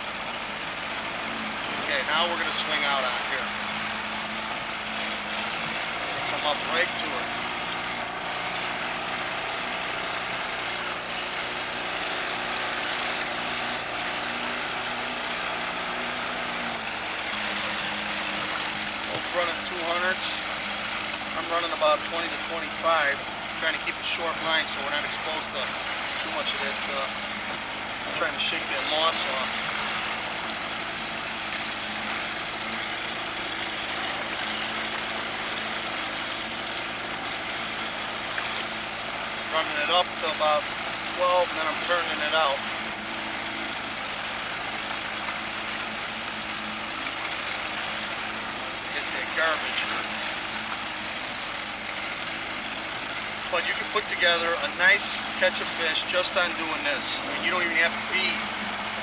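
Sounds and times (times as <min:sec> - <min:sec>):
outboard motor drone: 0:00.0 - 0:59.0
wind: 0:00.0 - 0:59.0.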